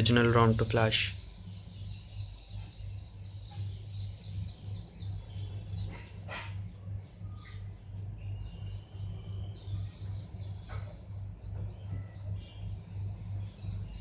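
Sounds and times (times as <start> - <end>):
low steady hum: 0.0 - 14.0
faint high chirping: 0.8 - 14.0.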